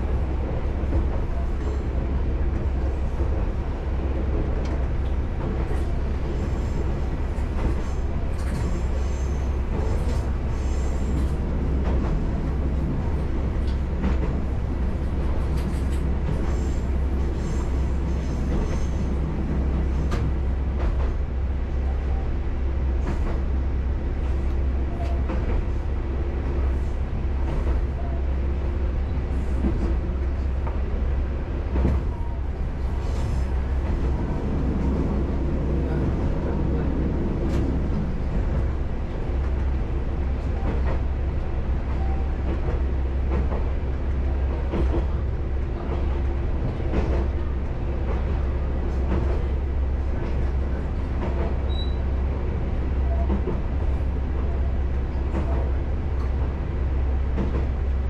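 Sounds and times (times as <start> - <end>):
railcar engine and running rumble: 0.0 - 58.0.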